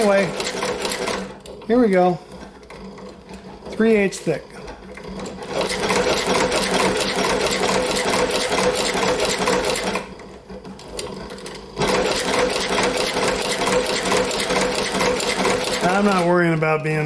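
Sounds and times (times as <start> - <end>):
sewing machine stitching: 0.0 - 17.0.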